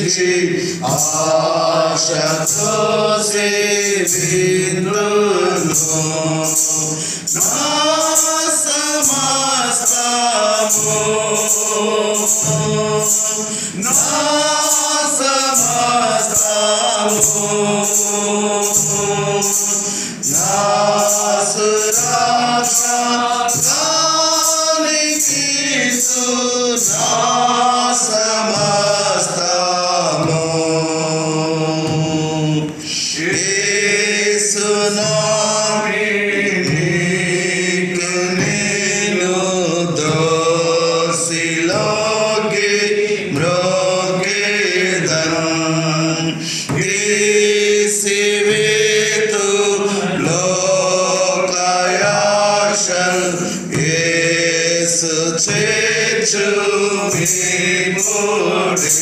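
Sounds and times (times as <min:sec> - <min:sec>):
high ticking beat: 0:00.0 - 0:59.0
hymn sung slowly: 0:00.0 - 0:59.0.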